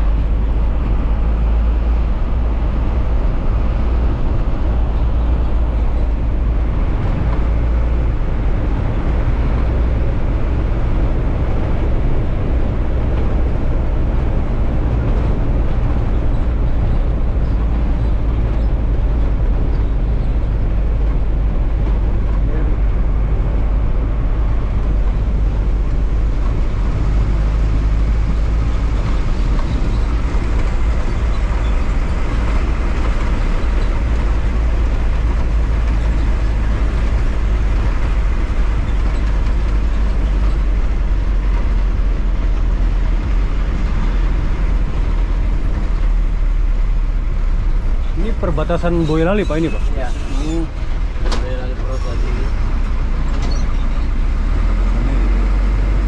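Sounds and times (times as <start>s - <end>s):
bus engine rumble: 0.0s - 56.0s
road noise: 0.0s - 56.0s.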